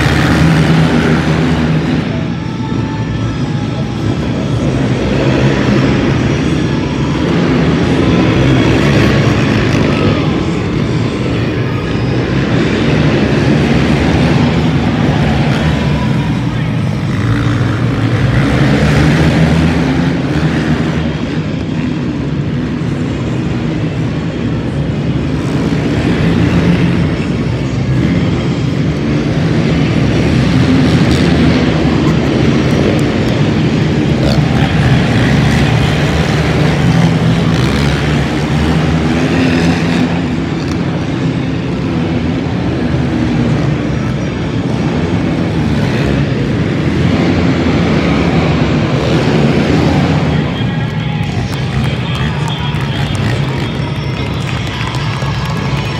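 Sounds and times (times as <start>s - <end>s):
racing engines droning: 0.0s - 55.9s.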